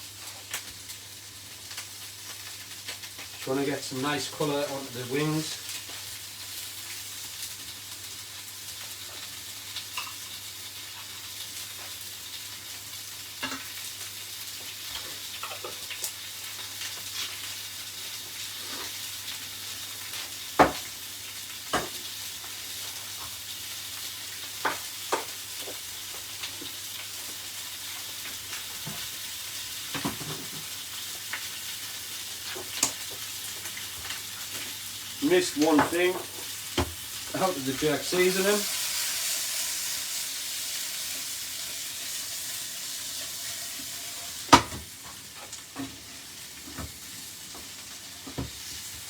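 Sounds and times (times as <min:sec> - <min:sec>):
chicken wings sizzling in oil: 0:00.0 - 0:49.0.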